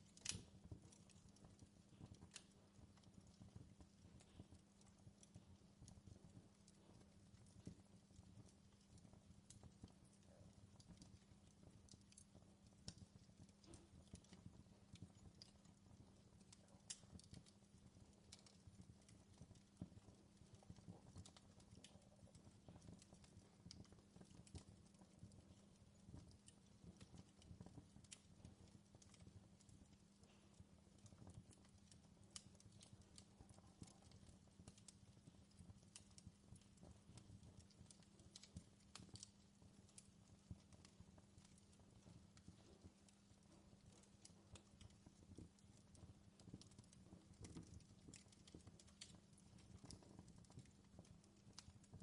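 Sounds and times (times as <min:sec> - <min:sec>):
fireplace crackling: 0:00.0 - 0:52.0.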